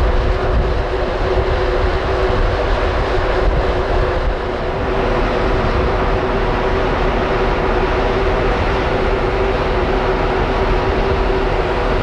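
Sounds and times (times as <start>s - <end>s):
ferry machinery hum: 0.0s - 12.0s.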